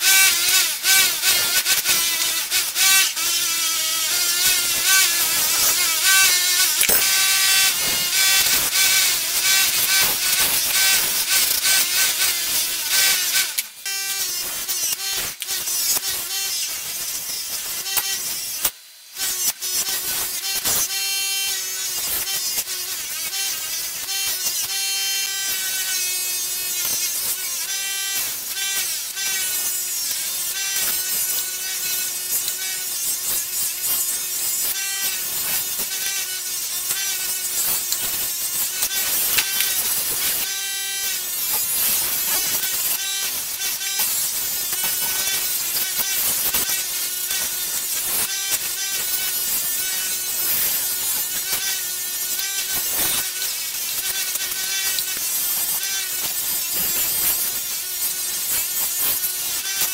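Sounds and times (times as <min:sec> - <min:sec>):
bench polisher whirring against blade: 0:00.0 - 0:59.9.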